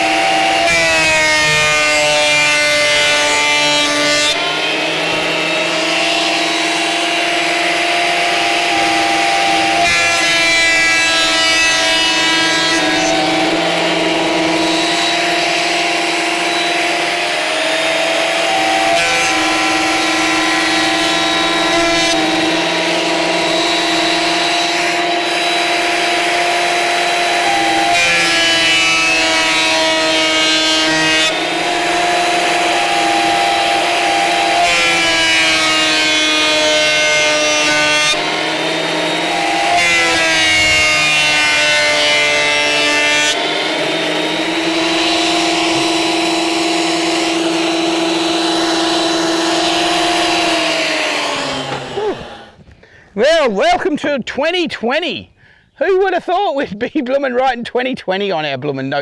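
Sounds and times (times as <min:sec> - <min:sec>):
planer motor whine: 0:00.0 - 0:52.8.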